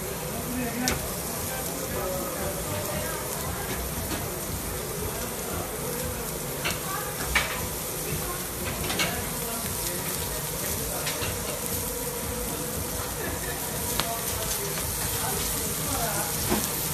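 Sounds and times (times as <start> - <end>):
steaks sizzling on a grill: 0.0 - 16.9.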